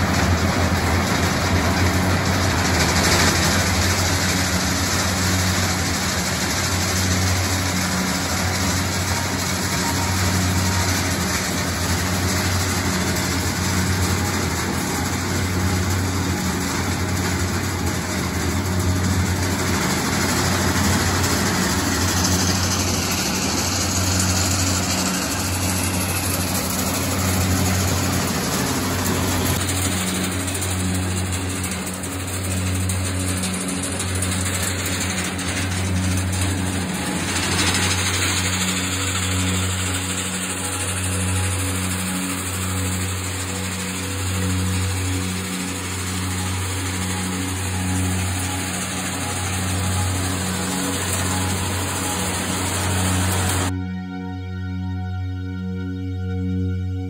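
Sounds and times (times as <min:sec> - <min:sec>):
acorn shelling machine humming: 0:00.0 - 0:53.9.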